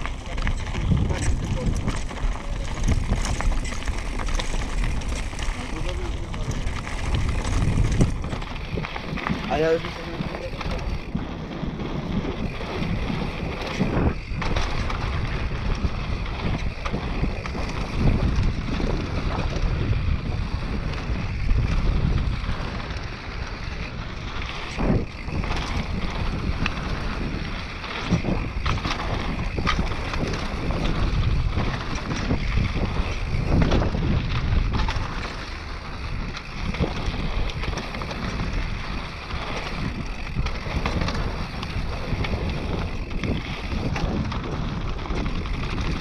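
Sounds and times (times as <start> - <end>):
bike knocks and rattles: 0.0 - 46.0
wind on microphone: 0.0 - 46.0.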